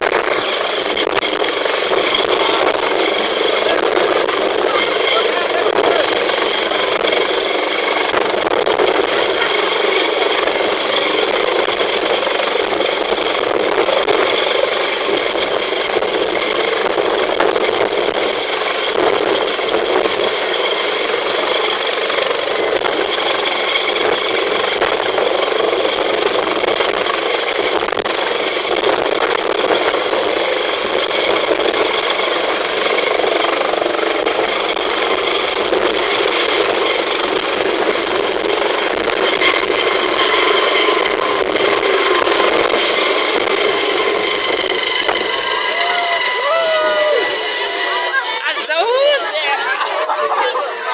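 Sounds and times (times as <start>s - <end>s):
helicopter rotor and engine rush: 0.0s - 50.9s
high turbine whine: 0.0s - 50.9s.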